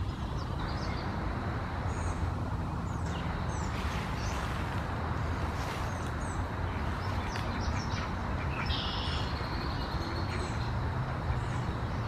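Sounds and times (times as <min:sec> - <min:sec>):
low background rumble: 0:00.0 - 0:12.0
songbirds chirping: 0:00.0 - 0:12.0.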